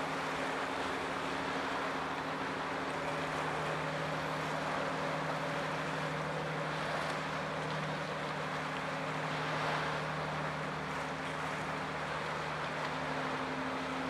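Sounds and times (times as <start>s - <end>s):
ship engine drone: 0.0s - 14.0s
wind and sea hiss: 0.0s - 14.0s.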